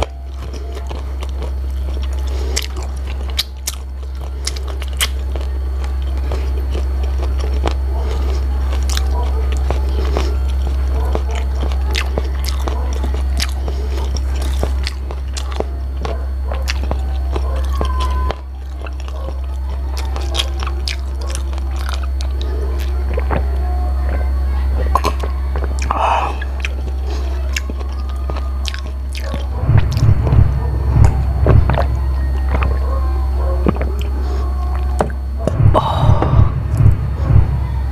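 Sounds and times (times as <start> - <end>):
chewing and lip smacks: 0.0 - 35.6
low hum: 0.0 - 37.9.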